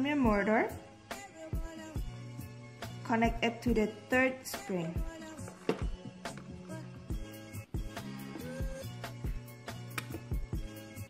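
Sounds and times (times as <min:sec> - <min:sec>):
music with steady beat: 0:01.0 - 0:03.8, 0:04.5 - 0:11.0.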